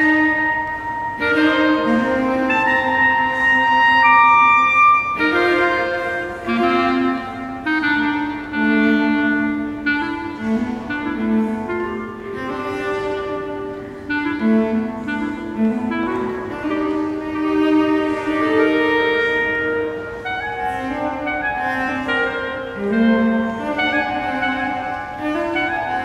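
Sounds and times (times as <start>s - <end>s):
bowed cello notes: 0.0s - 26.0s
clarinet melody: 0.0s - 26.0s.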